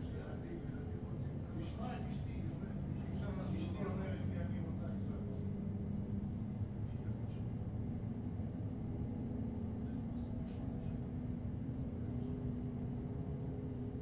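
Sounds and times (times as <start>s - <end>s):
distant engine rumble: 0.0s - 14.0s
faint droning hum: 0.0s - 14.0s.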